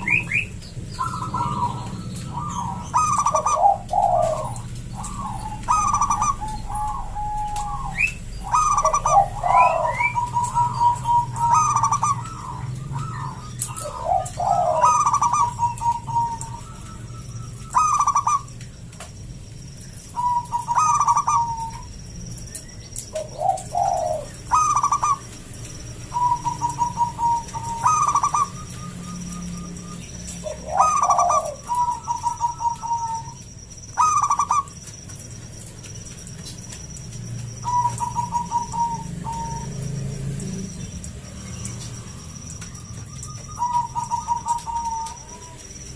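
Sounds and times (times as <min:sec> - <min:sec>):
dove cooing: 0:00.0 - 0:18.6, 0:20.0 - 0:21.9, 0:23.0 - 0:35.4, 0:36.1 - 0:45.9.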